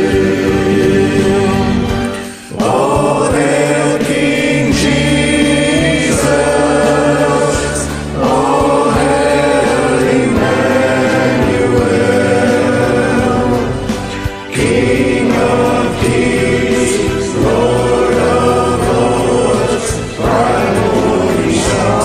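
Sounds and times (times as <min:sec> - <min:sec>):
men's choir singing gospel: 0:00.0 - 0:22.0.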